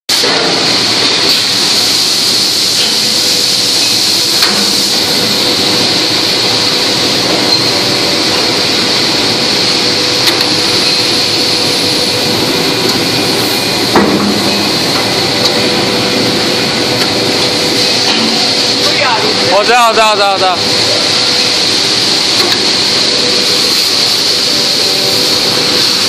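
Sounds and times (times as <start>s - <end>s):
die casting machine hiss and hum: 0.1s - 26.0s.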